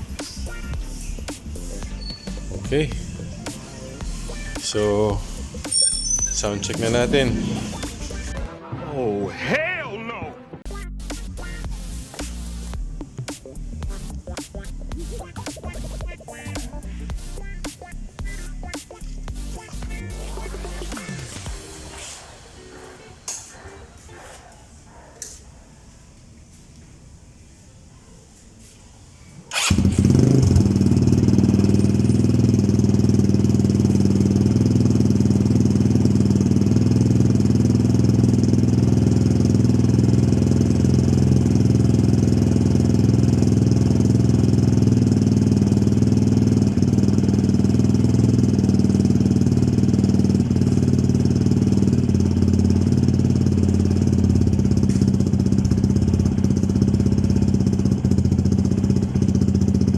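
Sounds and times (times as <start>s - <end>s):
motorcycle engine idling: 0.0s - 8.5s, 11.4s - 21.1s, 29.5s - 59.9s.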